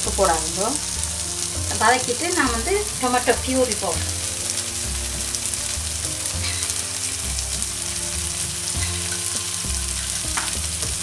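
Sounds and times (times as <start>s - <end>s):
masala sizzling in frying pan: 0.0s - 11.0s
wooden spoon stirring: 0.2s - 11.0s.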